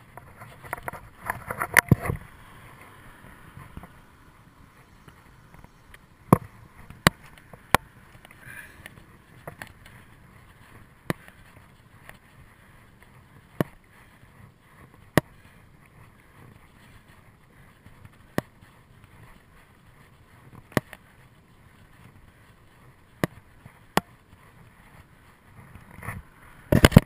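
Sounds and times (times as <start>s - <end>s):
bicycle tyres rumbling: 0.0s - 27.0s
wind: 0.0s - 27.0s.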